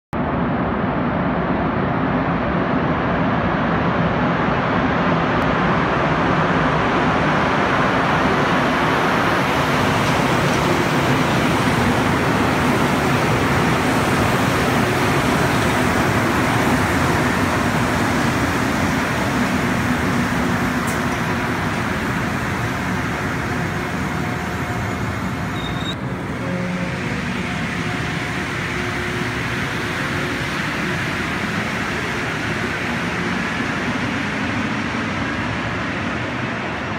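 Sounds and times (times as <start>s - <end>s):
train tyres and motors rumbling: 0.2s - 36.9s.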